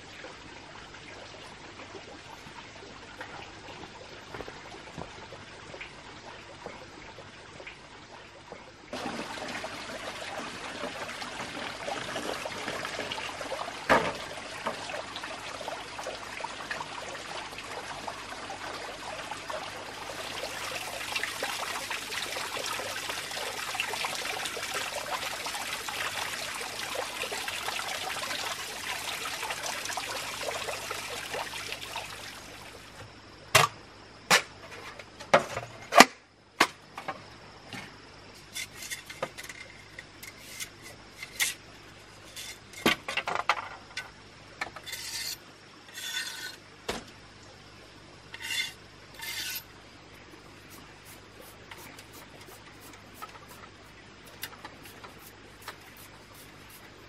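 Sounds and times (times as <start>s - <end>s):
stream trickling: 0.0s - 34.2s, 37.2s - 57.0s.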